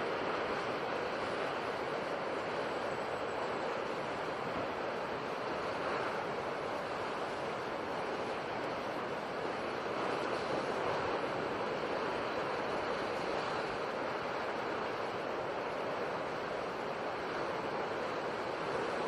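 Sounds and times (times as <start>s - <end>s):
sea surf washing: 0.0s - 19.0s.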